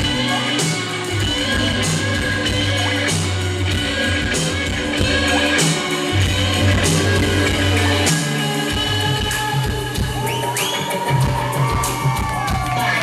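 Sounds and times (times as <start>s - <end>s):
deep bass line: 0.0s - 10.5s
keyboards: 0.0s - 13.0s
live band playing through pa: 0.0s - 13.0s.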